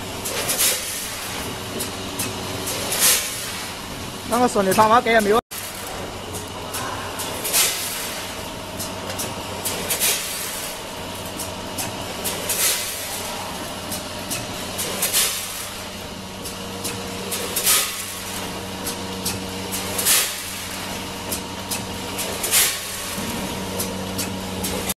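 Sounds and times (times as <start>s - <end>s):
machine hum with light clicking: 0.0s - 25.0s.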